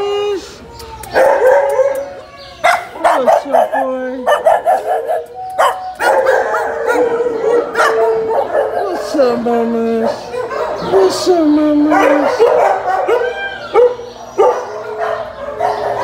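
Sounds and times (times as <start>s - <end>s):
dogs whining and howling: 0.7s - 16.0s
dogs yipping: 0.7s - 16.0s
dog barks: 1.2s - 9.1s, 10.1s - 11.2s, 11.9s - 16.0s.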